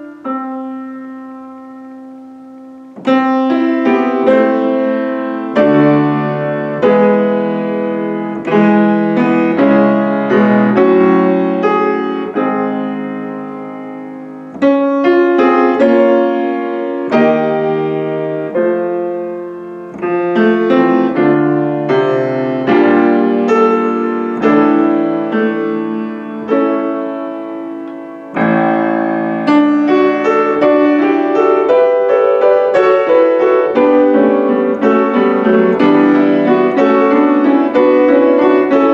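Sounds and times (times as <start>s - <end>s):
solo piano piece: 0.0s - 38.9s.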